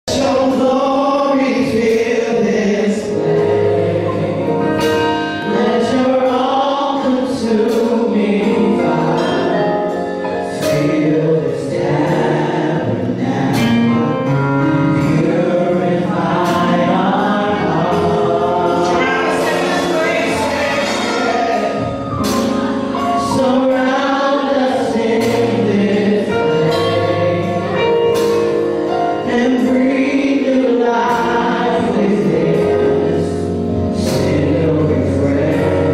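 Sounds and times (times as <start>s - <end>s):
drum kit: 0.1s - 35.9s
keyboard playing: 0.1s - 35.9s
women singing gospel in harmony: 0.1s - 35.9s.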